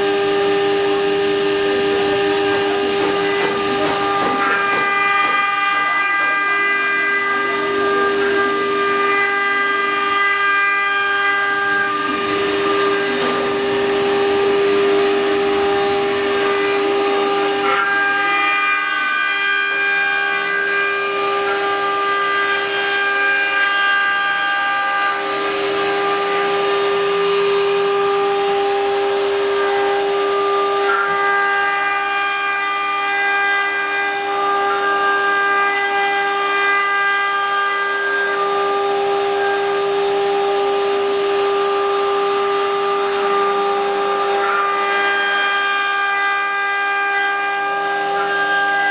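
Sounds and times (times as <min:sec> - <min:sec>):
cnc router spindles whining: 0:00.0 - 0:48.9.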